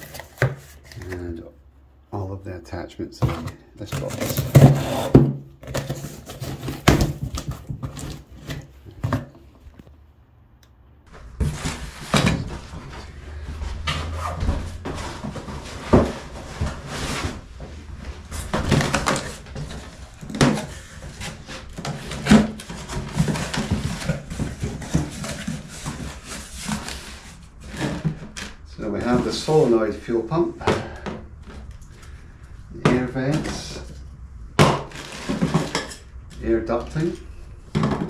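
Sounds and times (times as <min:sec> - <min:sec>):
cardboard and plastic rustling: 0:00.0 - 0:01.5, 0:03.2 - 0:10.0, 0:11.1 - 0:38.0
knocks and thumps of parts moved: 0:03.2 - 0:10.0, 0:11.1 - 0:29.8, 0:30.6 - 0:32.2, 0:32.8 - 0:38.0.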